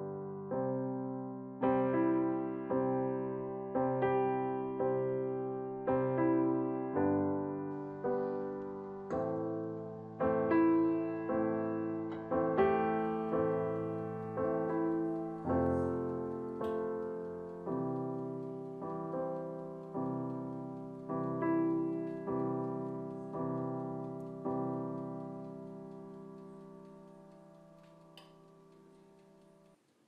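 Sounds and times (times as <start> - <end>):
slow gentle piano music: 0.0 - 29.8.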